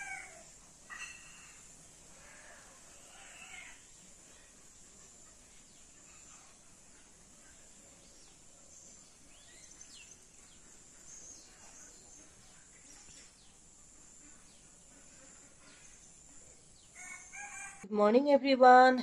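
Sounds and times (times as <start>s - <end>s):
small birds chirping: 0.0s - 17.8s
steady high hiss: 0.0s - 17.8s.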